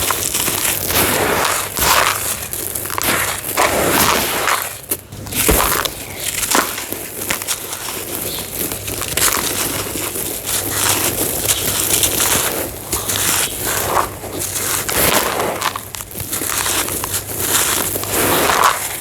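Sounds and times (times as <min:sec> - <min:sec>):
dry cement crunching: 0:00.0 - 0:19.0.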